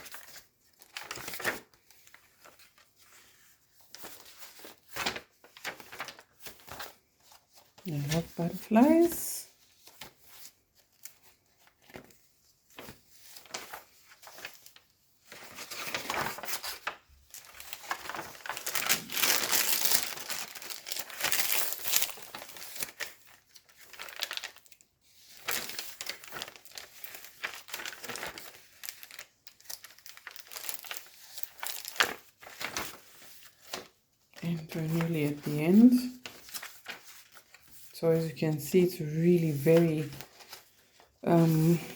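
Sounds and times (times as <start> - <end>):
pages turning: 0.0 - 38.3, 39.1 - 41.9
stiff paper rustling: 0.0 - 38.3, 39.1 - 41.9.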